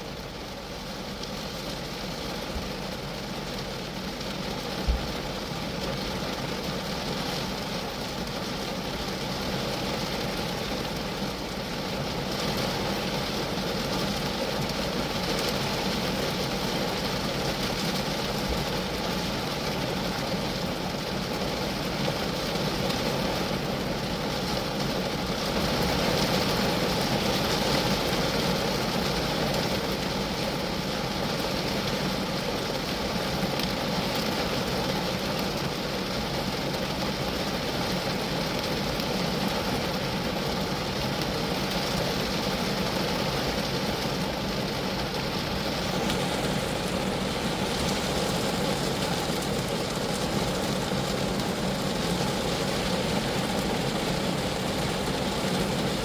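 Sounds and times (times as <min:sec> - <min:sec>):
rain falling on a car roof: 0:00.0 - 0:56.0.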